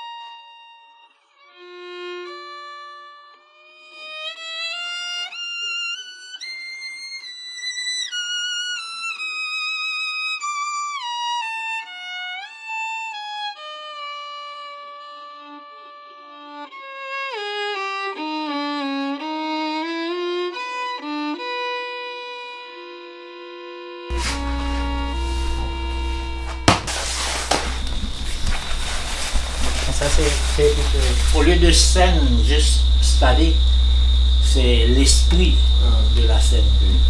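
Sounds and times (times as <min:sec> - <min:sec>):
solo violin melody: 0:00.0 - 0:37.0.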